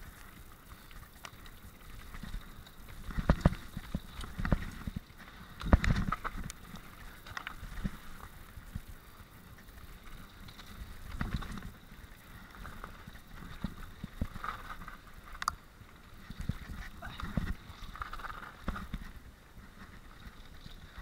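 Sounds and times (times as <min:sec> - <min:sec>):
bike rattling: 0:00.0 - 0:21.0
bike tyres rumbling over dirt: 0:00.0 - 0:21.0.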